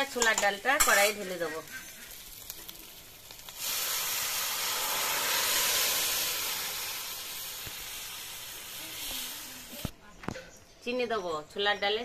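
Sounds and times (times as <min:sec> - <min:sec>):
food sizzling in hot oil: 0:00.0 - 0:09.9.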